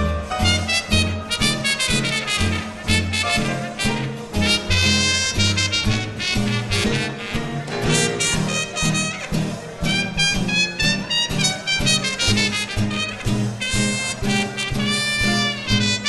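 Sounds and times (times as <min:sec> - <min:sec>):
swing band playing: 0:00.0 - 0:16.0
trumpet melody: 0:00.0 - 0:16.0.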